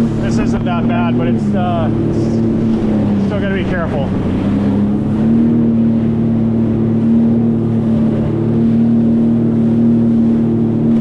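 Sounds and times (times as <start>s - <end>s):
personal watercraft engine running: 0.0s - 11.0s
rushing water: 0.0s - 11.0s.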